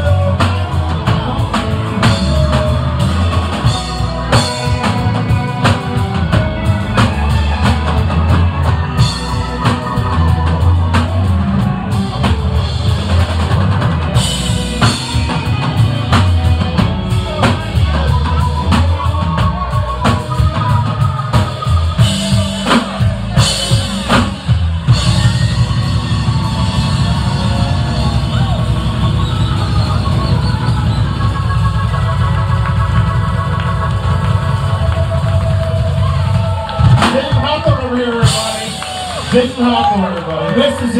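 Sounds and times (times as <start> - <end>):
bass drum and snare: 0.0 - 39.8
live rock band playing: 0.0 - 40.9.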